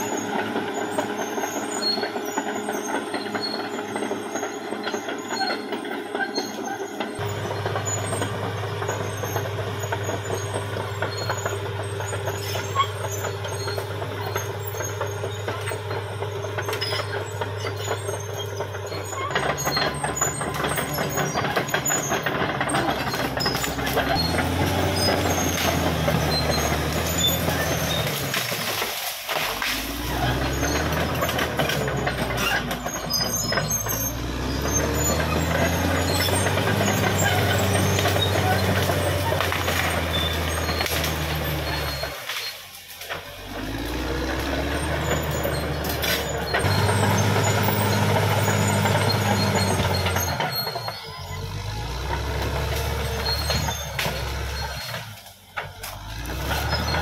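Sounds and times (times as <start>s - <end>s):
bulldozer diesel engine: 0.0s - 57.0s
steel tracks clanking and squealing: 0.0s - 57.0s.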